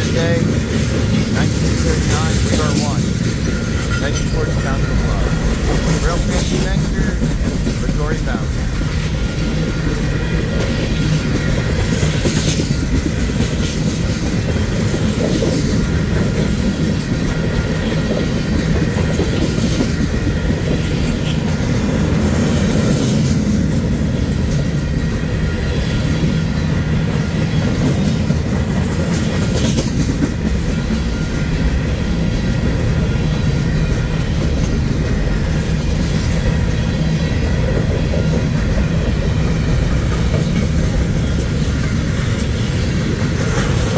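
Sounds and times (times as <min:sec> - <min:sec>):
freight train rumbling past: 0:00.0 - 0:43.9
wheels clacking over rail joints: 0:00.0 - 0:43.9.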